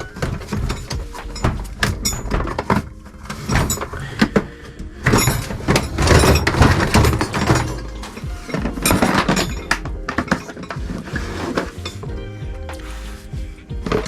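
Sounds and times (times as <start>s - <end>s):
gear knocking and clunking: 0.0s - 12.8s
scraping and rustling: 0.0s - 14.0s.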